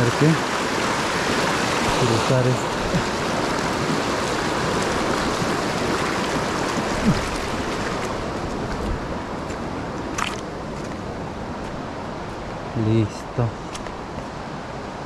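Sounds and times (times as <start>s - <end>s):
water rushing in rocky stream: 0.0s - 12.7s.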